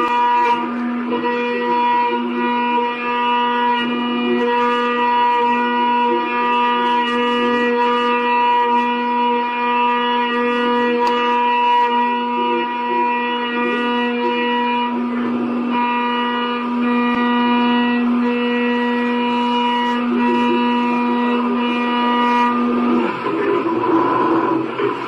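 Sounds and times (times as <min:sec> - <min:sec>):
lathe whining: 0:00.0 - 0:25.0
rough machine noise: 0:00.0 - 0:25.0.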